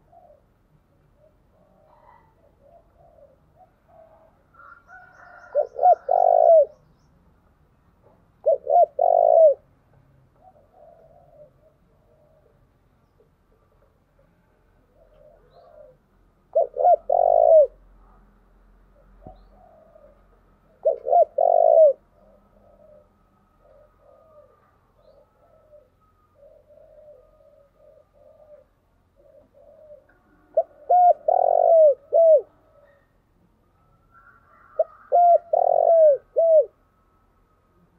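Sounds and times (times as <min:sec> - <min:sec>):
dove cooing: 0:00.0 - 0:06.9, 0:08.3 - 0:18.2, 0:18.9 - 0:33.2, 0:34.2 - 0:36.8.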